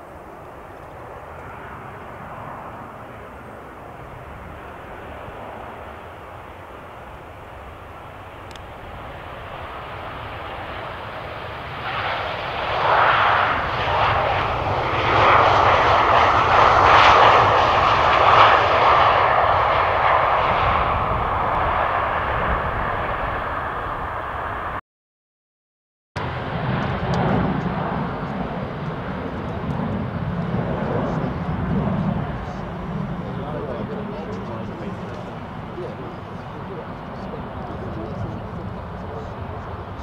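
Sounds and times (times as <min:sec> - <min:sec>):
jet engines passing close: 0:00.0 - 0:24.8, 0:26.2 - 0:40.0.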